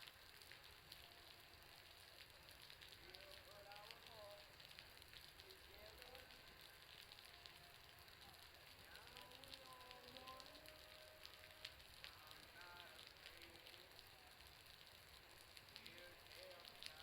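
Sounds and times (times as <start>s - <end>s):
bonfire crackling: 0.0s - 17.0s
water dripping from roof: 0.0s - 17.0s.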